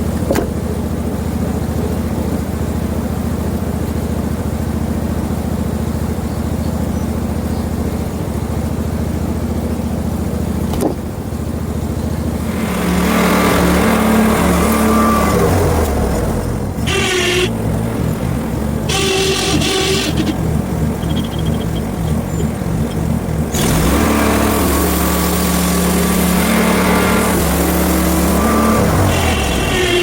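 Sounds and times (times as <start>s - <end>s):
gasoline engine running: 0.0s - 30.0s.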